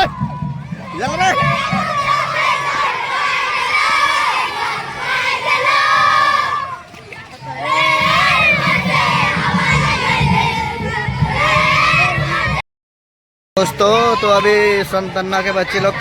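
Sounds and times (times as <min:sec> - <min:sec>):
children shouting and cheering: 0:00.0 - 0:12.6, 0:13.6 - 0:16.0.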